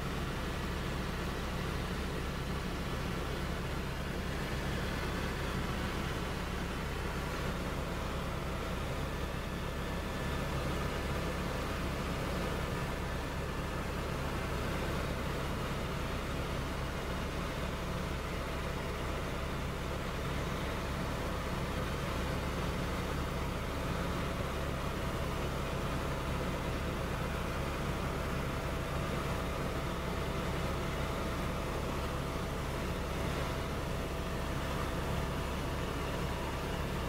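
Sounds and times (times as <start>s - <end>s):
helicopter engine and rotor drone: 0.0s - 37.0s.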